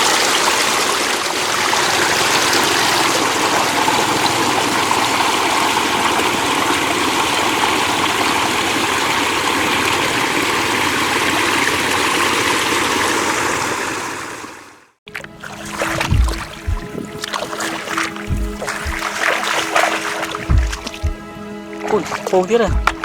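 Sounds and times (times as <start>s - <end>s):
floodwater rushing: 0.0s - 14.0s, 15.1s - 23.0s.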